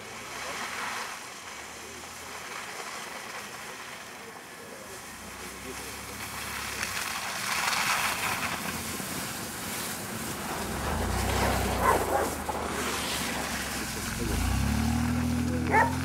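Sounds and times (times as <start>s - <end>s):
car engine under throttle: 0.0s - 16.0s
tyres churning snow: 0.0s - 16.0s.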